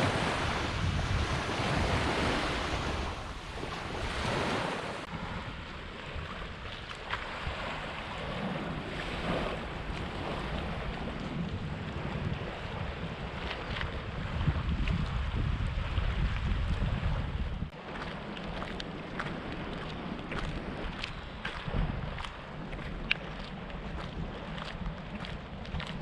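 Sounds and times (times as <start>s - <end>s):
sea waves washing onto shore: 0.0s - 26.0s
wind rumbling on microphone: 0.0s - 26.0s.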